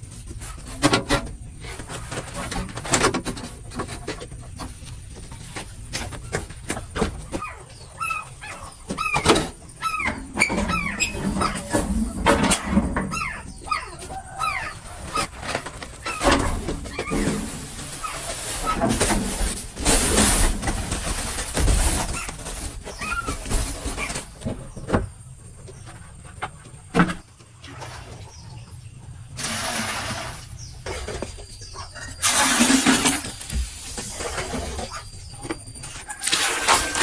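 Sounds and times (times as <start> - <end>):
chickens calling: 3.4 - 26.9, 27.7 - 37.0.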